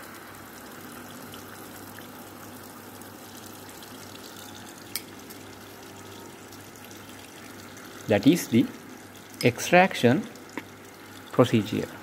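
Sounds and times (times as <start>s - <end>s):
vacuum filtration watery hiss: 0.0s - 12.0s.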